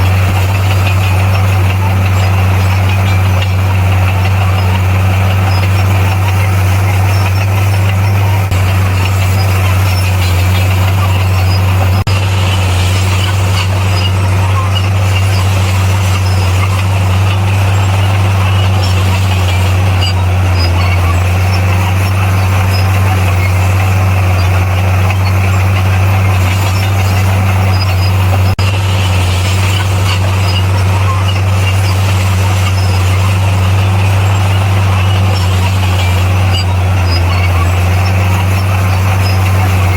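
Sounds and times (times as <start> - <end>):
heavy diesel engine drone: 0.0 - 39.9
mechanical clatter and hiss: 0.0 - 39.9.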